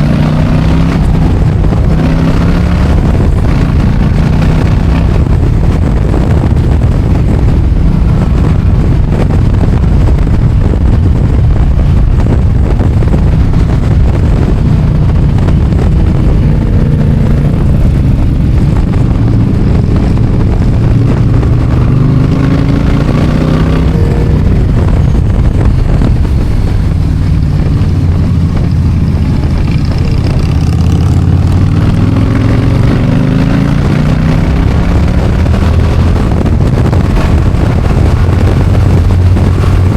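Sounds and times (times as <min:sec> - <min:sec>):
motorcycle engine revving: 0:00.0 - 0:39.9
road and wind noise: 0:00.0 - 0:39.9.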